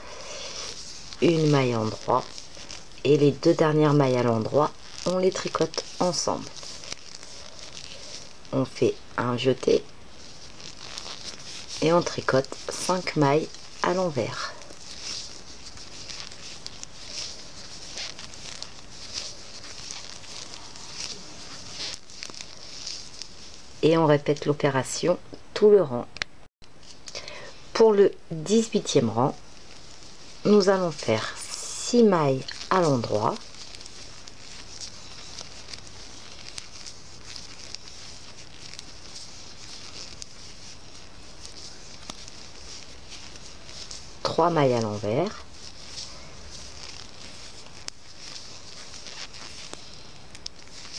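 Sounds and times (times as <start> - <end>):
yarn rustling: 0.0 - 25.2, 27.6 - 50.9.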